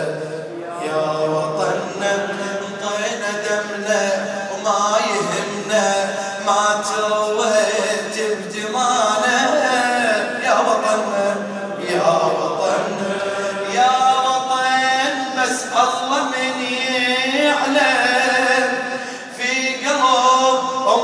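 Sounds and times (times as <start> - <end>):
man chanting into a microphone: 0.0 - 21.0.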